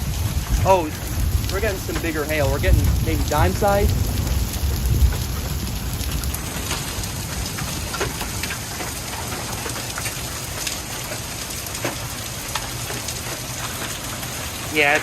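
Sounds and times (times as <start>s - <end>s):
hailstones striking hard surfaces: 0.0s - 15.0s
heavy rain hiss: 0.0s - 15.0s.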